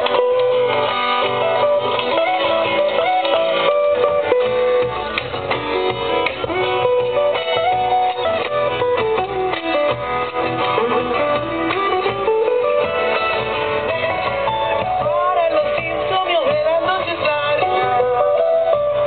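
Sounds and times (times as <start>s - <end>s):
folk melody line: 0.0s - 19.0s
strummed and plucked guitar: 0.0s - 19.0s.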